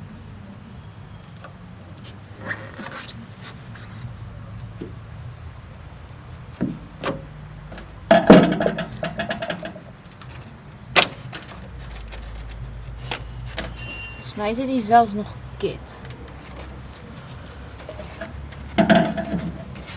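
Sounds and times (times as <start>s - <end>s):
trim clattering: 2.4s - 19.9s.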